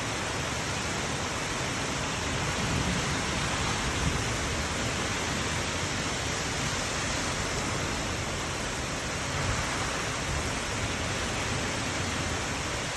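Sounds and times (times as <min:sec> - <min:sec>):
heavy rain: 0:00.0 - 0:12.9.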